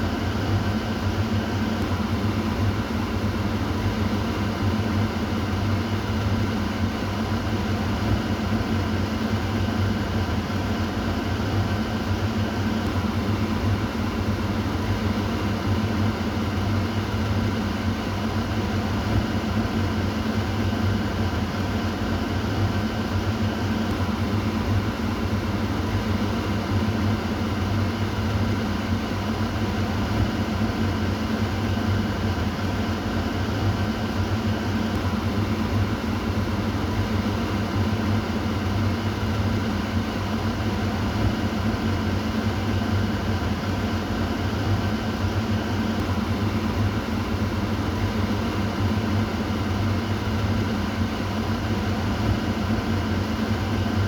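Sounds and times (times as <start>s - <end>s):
exhaust fan humming: 0.0s - 54.0s.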